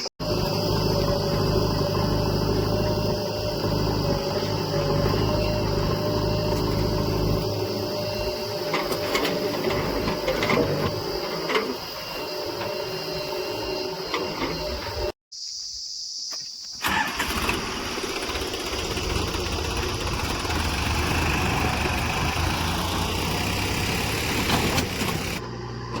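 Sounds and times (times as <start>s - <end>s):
diesel engine running: 0.2s - 15.1s, 16.8s - 26.0s.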